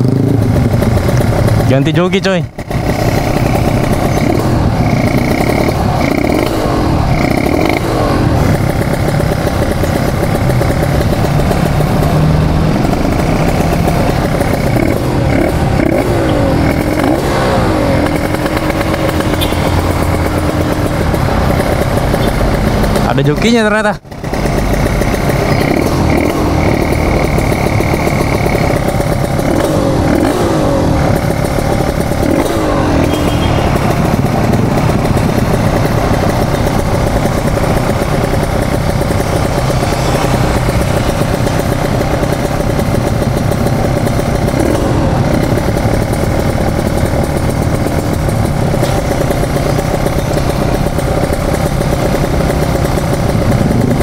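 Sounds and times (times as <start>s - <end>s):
two-stroke motorcycle engine running: 0.0s - 54.0s.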